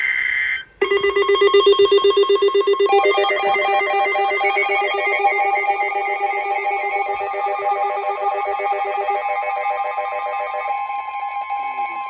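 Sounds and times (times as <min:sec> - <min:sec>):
electronic beeping tones: 0:00.8 - 0:12.0.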